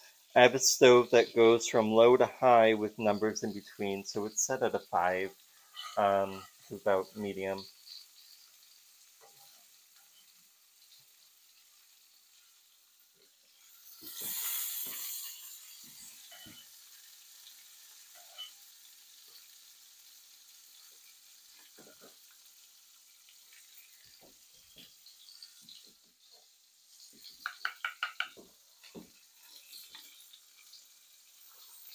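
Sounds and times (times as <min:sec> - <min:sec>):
batter sizzling in a frying pan: 0:00.0 - 0:31.9.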